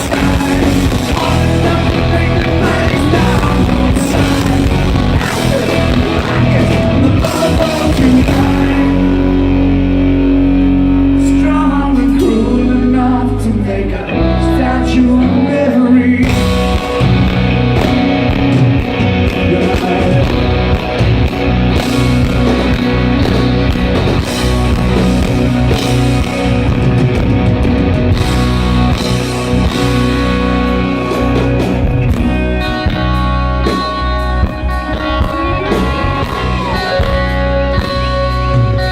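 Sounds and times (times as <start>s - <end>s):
guitar notes sliding downward: 0.0s - 38.9s
live rock band playing: 0.0s - 38.9s.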